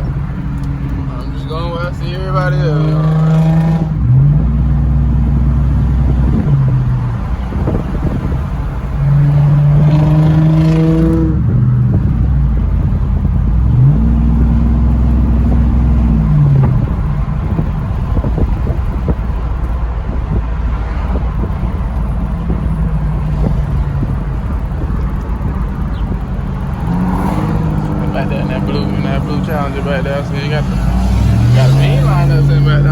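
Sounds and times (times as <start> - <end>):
road rumble: 0.0 - 32.9
vehicle engine revving: 0.0 - 32.9.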